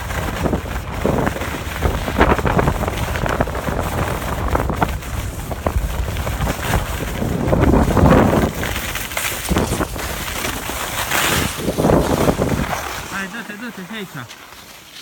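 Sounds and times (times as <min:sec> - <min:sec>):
wind buffeting microphone: 0:00.0 - 0:13.2
skis scraping on snow: 0:00.0 - 0:15.0.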